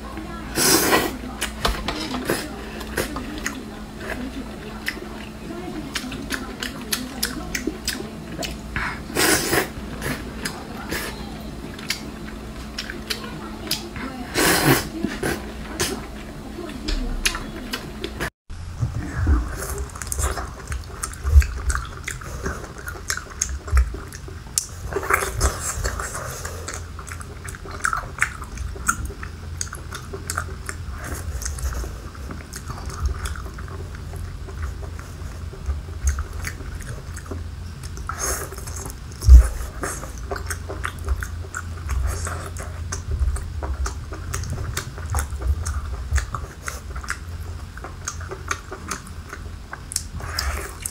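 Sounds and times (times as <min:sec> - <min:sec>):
wet chewing mouth clicks: 0:02.3 - 0:11.1, 0:11.7 - 0:16.0, 0:19.4 - 0:50.9.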